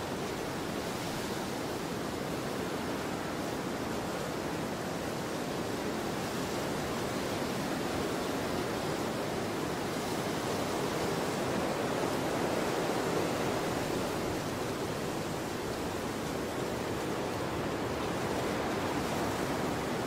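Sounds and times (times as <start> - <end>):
wind and sea roar: 0.0 - 20.0.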